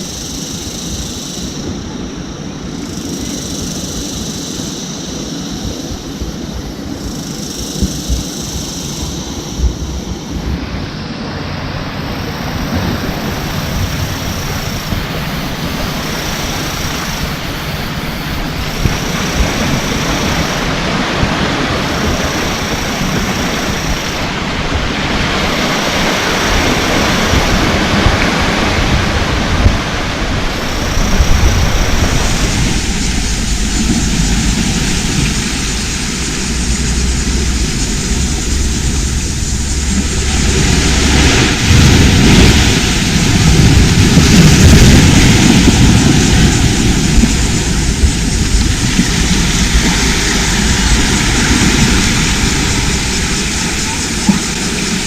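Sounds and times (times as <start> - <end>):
ocean surf rushing: 0.0 - 55.0.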